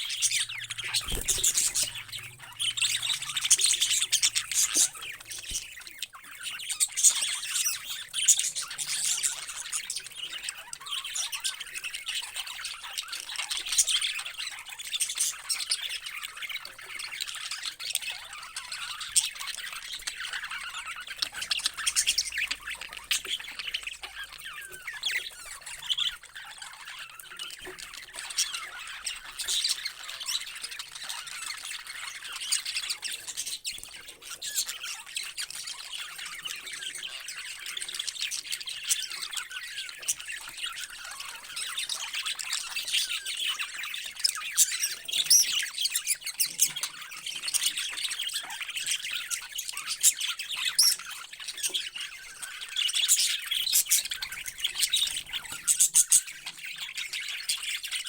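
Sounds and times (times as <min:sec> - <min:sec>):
parrots squawking and chirping: 0:00.0 - 0:58.0.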